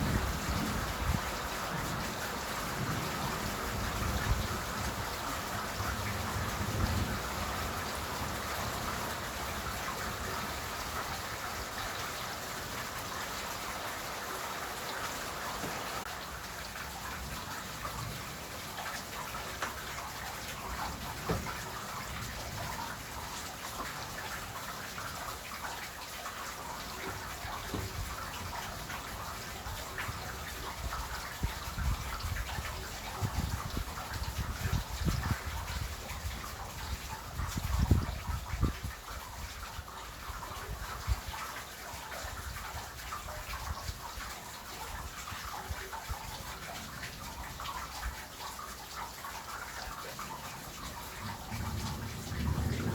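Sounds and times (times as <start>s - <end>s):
raindrops ticking close by: 0.0s - 52.9s
steady rain falling: 0.0s - 52.9s.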